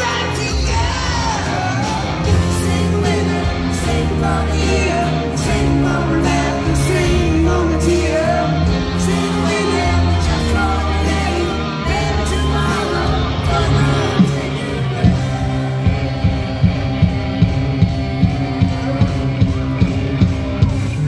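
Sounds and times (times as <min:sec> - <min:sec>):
person singing: 0:00.0 - 0:21.0
rock band playing: 0:00.0 - 0:21.0.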